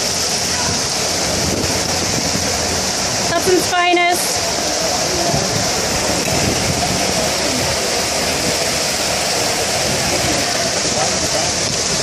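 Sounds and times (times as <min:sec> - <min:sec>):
floodwater rushing down street: 0:00.0 - 0:12.0
heavy rain: 0:00.0 - 0:12.0.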